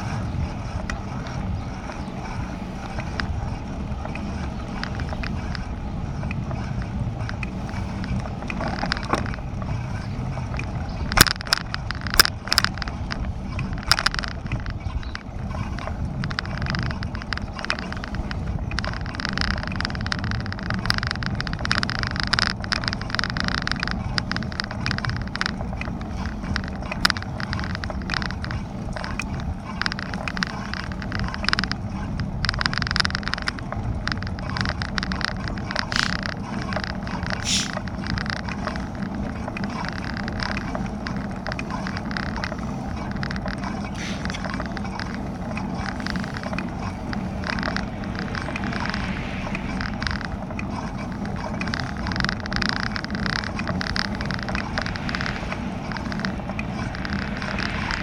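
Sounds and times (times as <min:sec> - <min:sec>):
bike rattling over bumps: 0:00.0 - 0:58.0
wind: 0:00.0 - 0:58.0.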